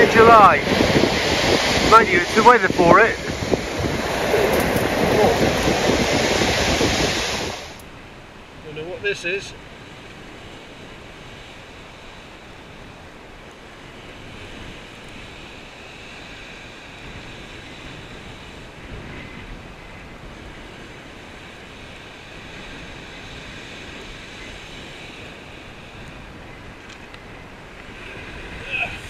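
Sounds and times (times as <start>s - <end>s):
surf washing on shingle: 0.0s - 29.0s
wind over microphone: 0.0s - 29.0s.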